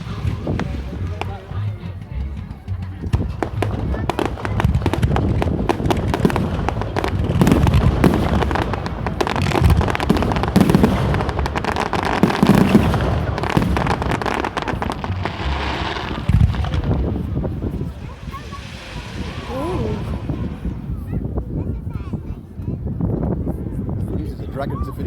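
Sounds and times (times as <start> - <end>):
fireworks crackling and popping: 0.0 - 22.3
fireworks low booms: 0.0 - 24.0.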